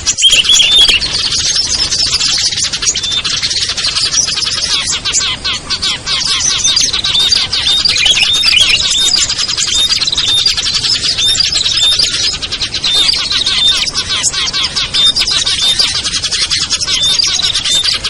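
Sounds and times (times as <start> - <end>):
songbirds chattering: 0.0 - 18.0.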